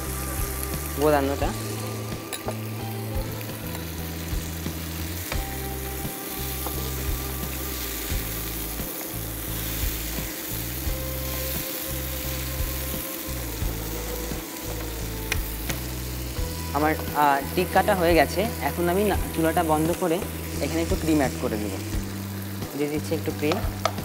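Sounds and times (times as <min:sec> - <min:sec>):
chicken sizzling in frying pan: 0:00.0 - 0:24.0.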